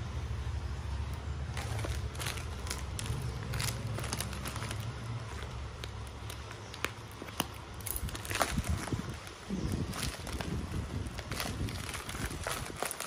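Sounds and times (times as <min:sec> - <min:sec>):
packaging rustling and crinkling: 0:01.1 - 0:13.0.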